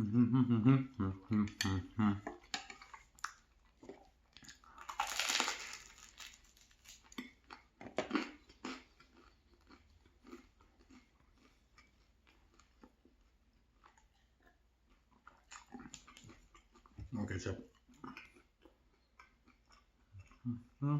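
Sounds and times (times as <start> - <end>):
chewing crunchy food: 1.6 - 20.9.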